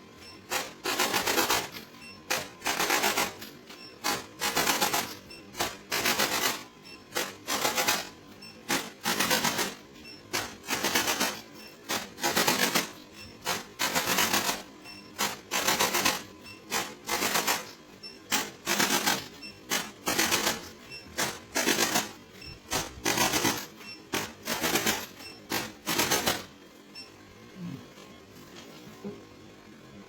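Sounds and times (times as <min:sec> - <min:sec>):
rapid mechanical clicking: 0:00.5 - 0:26.5.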